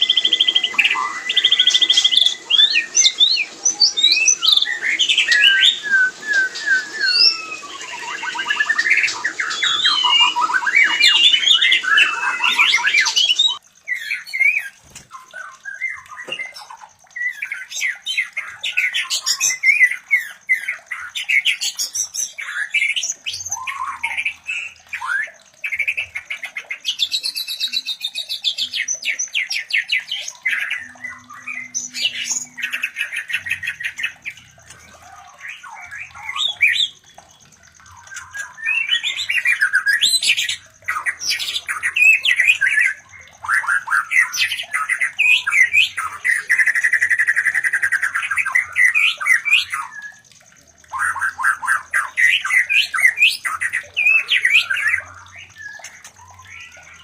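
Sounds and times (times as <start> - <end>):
birds whistling and squawking: 0.0 - 57.0.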